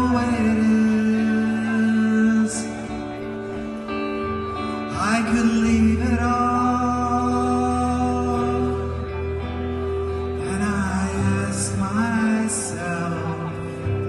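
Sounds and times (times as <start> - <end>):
clean electric guitar: 0.0 - 14.0
man singing softly: 0.0 - 14.0.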